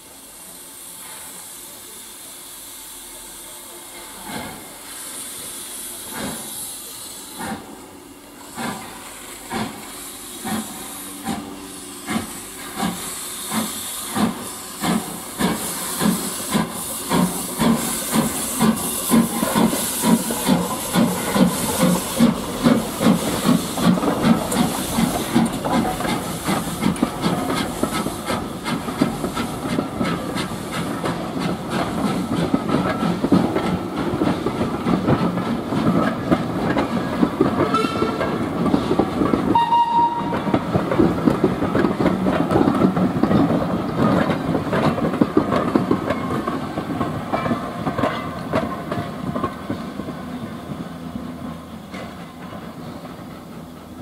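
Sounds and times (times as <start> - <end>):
steam exhaust beats and hiss: 0.0 - 54.0
train wheels clickety-clack: 3.9 - 7.8, 8.4 - 54.0.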